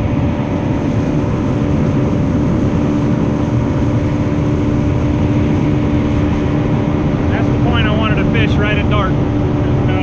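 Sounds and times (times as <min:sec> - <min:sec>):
boat motor running: 0:00.0 - 0:10.0.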